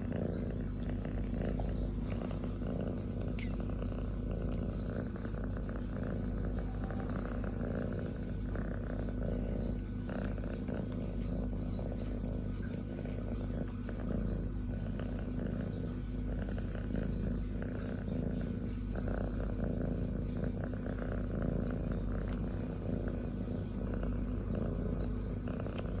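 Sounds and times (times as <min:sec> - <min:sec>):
kitten purring: 0:00.0 - 0:26.0.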